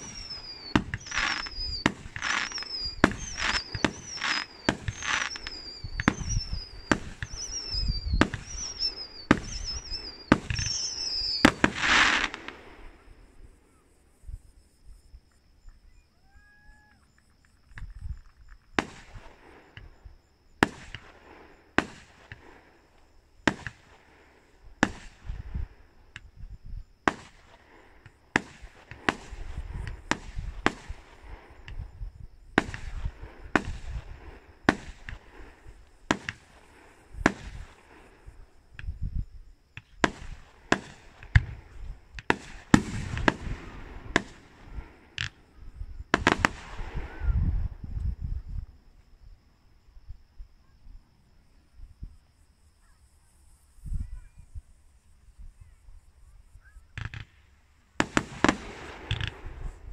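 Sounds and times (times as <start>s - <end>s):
fireworks bursting: 0.0s - 13.9s, 17.4s - 48.7s, 55.3s - 59.9s.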